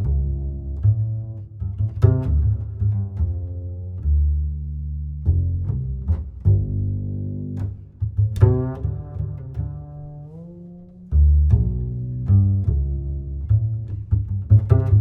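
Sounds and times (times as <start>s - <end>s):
deep sustained bass notes: 0.0s - 15.0s.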